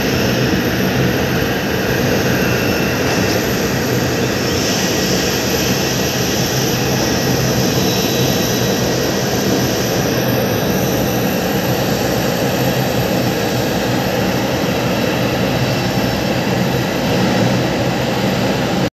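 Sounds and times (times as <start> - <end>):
airliner engines droning: 0.0 - 18.9.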